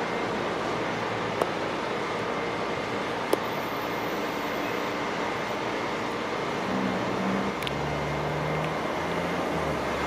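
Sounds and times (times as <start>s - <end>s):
locomotive engine drone: 0.0s - 10.0s.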